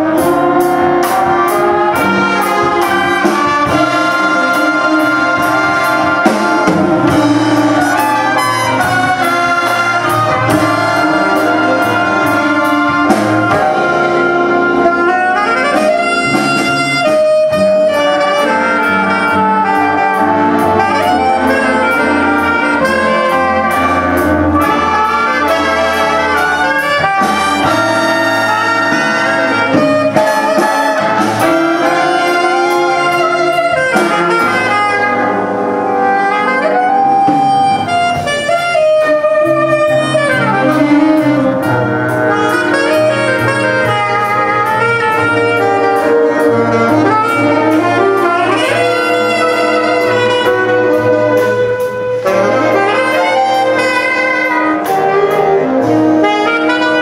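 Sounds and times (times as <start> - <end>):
saxophone section: 0.0 - 57.0
trumpets and trombones: 0.0 - 57.0
upright bass: 0.0 - 57.0.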